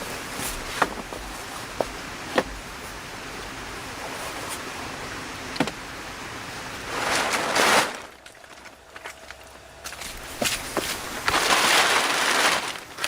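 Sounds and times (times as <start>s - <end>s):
rustling: 0.0s - 4.9s, 6.8s - 13.0s.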